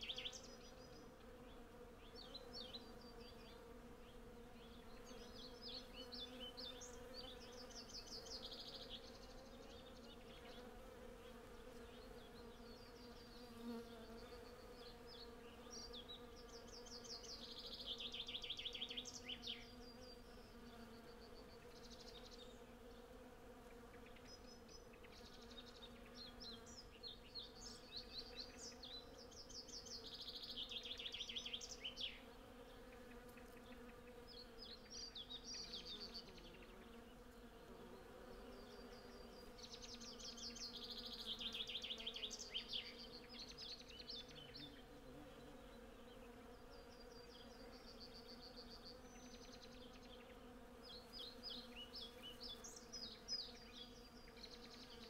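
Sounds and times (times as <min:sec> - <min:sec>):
bees buzzing: 0:00.0 - 0:55.0
birds singing: 0:00.0 - 0:55.0.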